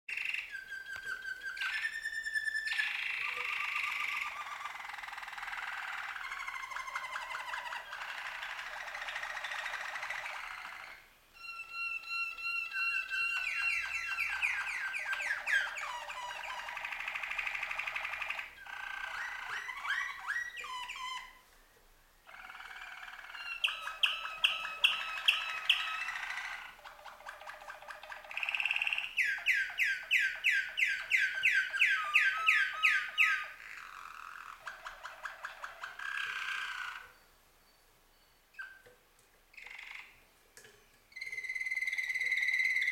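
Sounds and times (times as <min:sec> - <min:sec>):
canaries singing: 0:00.1 - 0:21.4, 0:22.3 - 0:38.9, 0:39.5 - 0:40.2, 0:41.1 - 0:42.9.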